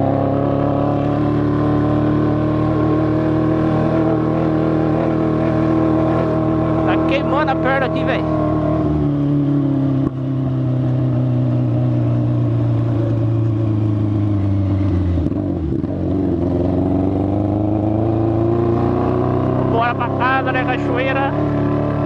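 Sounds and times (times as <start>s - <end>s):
motorcycle engine running: 0.0s - 22.0s
strange engine noise: 0.0s - 22.0s.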